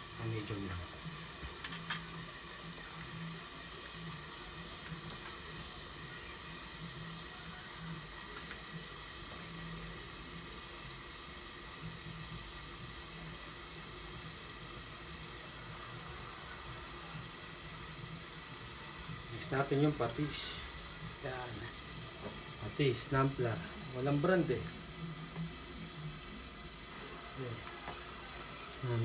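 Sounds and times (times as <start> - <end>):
chicken sizzling in a frying pan: 0.0 - 29.0.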